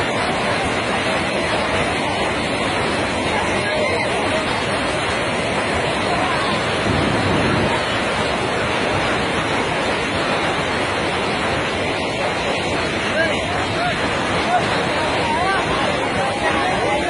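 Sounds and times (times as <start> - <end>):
floodwater roaring: 0.0 - 17.0.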